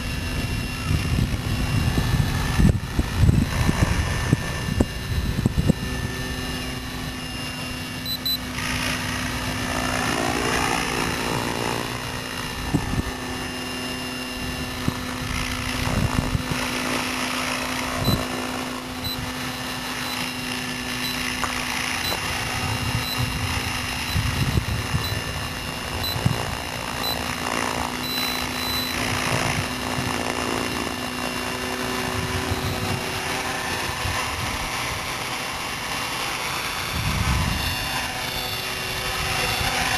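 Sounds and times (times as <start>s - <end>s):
rc helicopter rotor hum: 0.0s - 39.9s.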